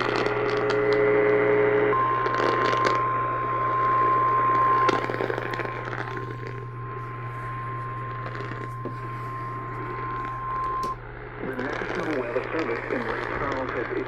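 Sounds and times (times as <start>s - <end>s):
low radio hum: 0.0s - 14.0s
radio static hiss and crackles: 0.0s - 14.0s
emergency alert tone: 1.9s - 13.7s.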